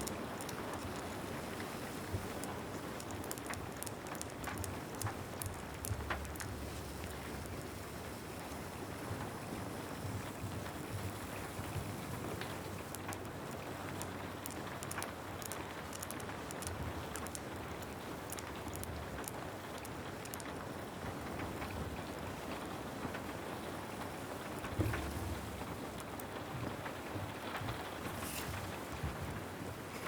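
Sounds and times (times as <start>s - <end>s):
small sharp ticks: 0.0s - 9.3s, 10.3s - 23.3s, 24.4s - 29.4s
steady rain: 0.0s - 30.0s.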